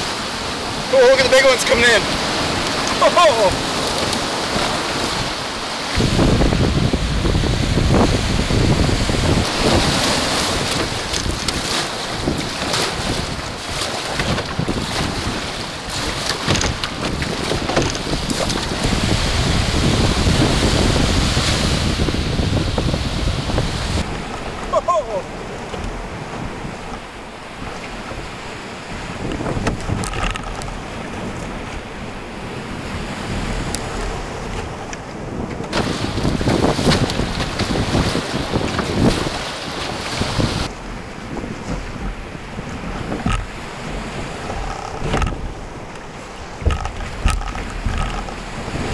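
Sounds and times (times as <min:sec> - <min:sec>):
paddle splashes: 0:00.0 - 0:48.9
surf breaking: 0:00.0 - 0:48.9
waves splashing: 0:00.0 - 0:48.9
wind noise on microphone: 0:00.0 - 0:48.9.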